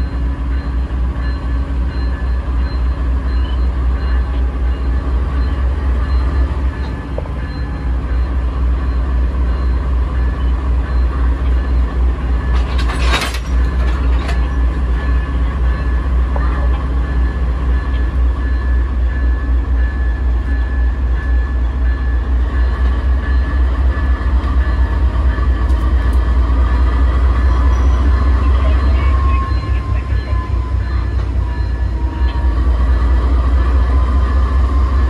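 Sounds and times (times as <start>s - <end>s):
locomotive low rumble: 0.0s - 35.0s.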